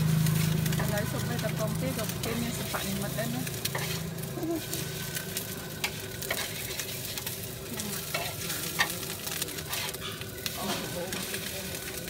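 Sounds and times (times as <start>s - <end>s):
food sizzling in oil: 0.0s - 12.0s
metal spatula scraping a wok: 0.1s - 12.0s.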